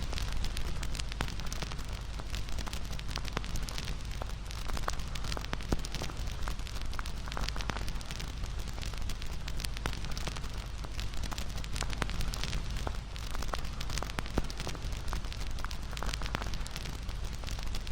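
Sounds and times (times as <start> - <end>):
campfire crackles and pops: 0.0 - 17.9.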